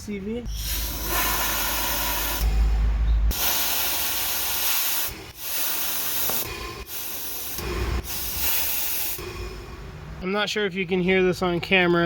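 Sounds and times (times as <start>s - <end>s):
compressed air hissing: 0.5s - 10.2s.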